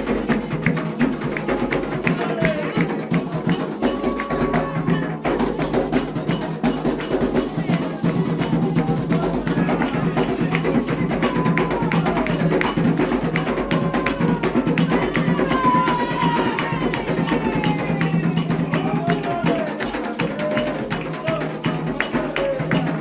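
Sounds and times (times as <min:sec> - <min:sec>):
hand drums playing fast rhythm: 0:00.0 - 0:23.0
voices singing: 0:00.0 - 0:23.0.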